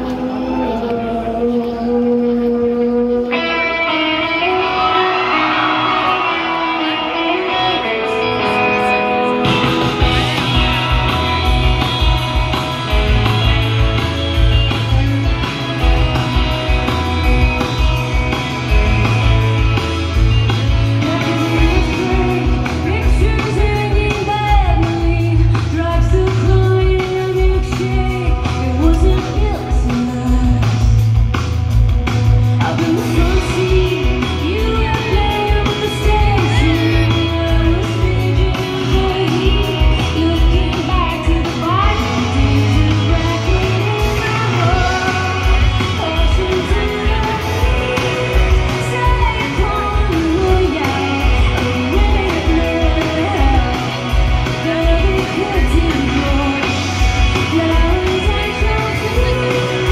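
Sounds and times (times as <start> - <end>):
woman singing lead vocal: 0.0 - 17.9, 20.6 - 31.3, 32.5 - 59.9
bass guitar: 0.0 - 59.9
electric guitars: 0.0 - 59.9
steady drum beat: 9.4 - 59.9.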